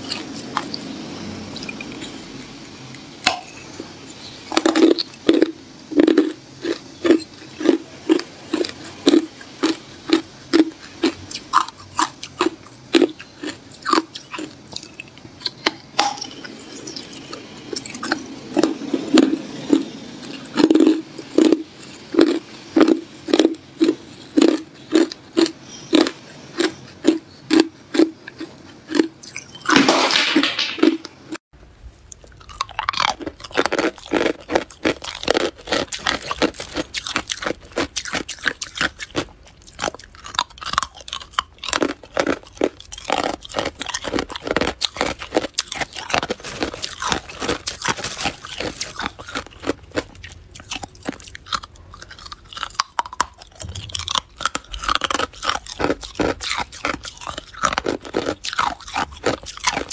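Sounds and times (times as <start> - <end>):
ice being chewed: 0.0 - 29.9, 32.1 - 59.9.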